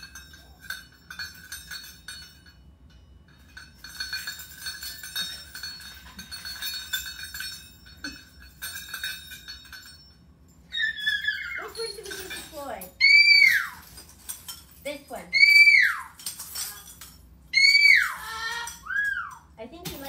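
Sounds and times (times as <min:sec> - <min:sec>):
metal toys clinking and jingling: 0:00.0 - 0:20.0
small bells knocking: 0:00.0 - 0:20.0
steady high ringing: 0:00.0 - 0:20.0.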